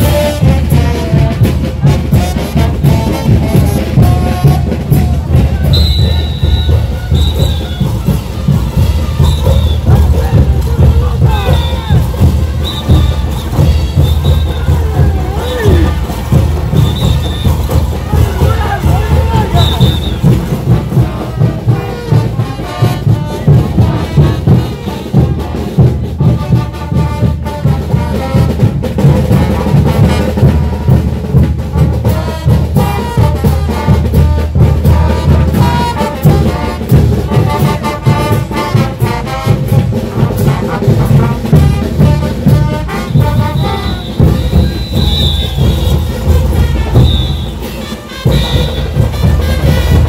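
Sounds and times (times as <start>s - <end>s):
drums keeping steady beat: 0.0s - 50.0s
trumpets and trombones: 0.0s - 50.0s.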